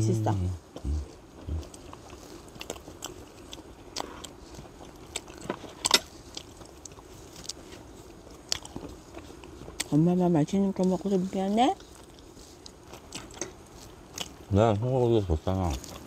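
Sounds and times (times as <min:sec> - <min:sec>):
person chewing food: 0:00.3 - 0:10.1, 0:10.7 - 0:16.0.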